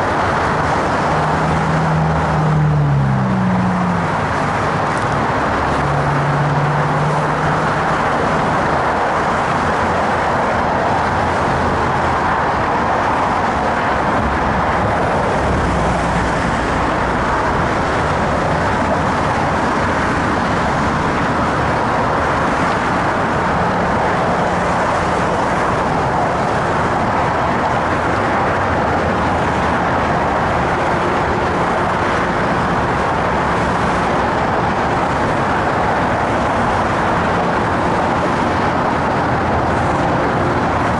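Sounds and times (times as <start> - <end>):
road traffic noise: 0.0 - 40.9.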